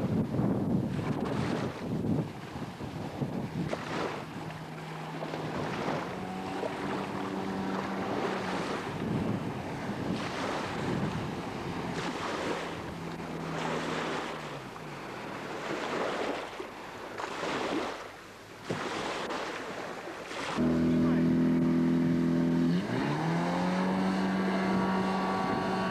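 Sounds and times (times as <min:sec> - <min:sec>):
wind buffeting microphone: 0:00.0 - 0:16.4, 0:20.6 - 0:25.9
boat engine humming: 0:00.0 - 0:25.9
rushing splashing water: 0:00.8 - 0:25.9.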